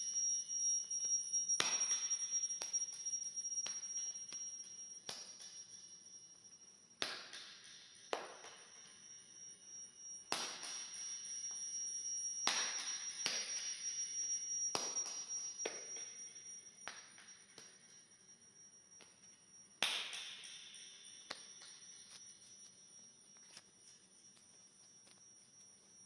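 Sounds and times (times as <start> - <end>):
high feedback whine: 0.0 - 26.0.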